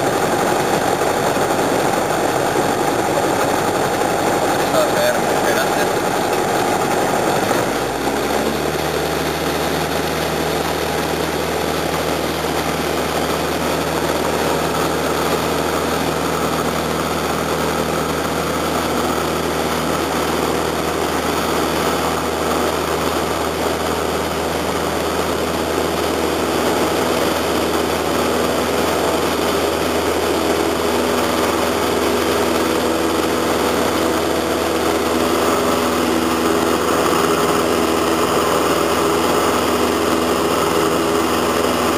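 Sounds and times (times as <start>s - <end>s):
light aircraft engine and propeller: 0.0s - 41.9s.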